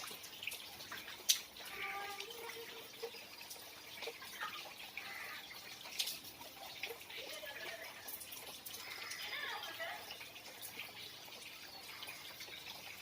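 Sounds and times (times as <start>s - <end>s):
rain falling: 0.0s - 13.0s
water dripping and trickling: 0.0s - 13.0s.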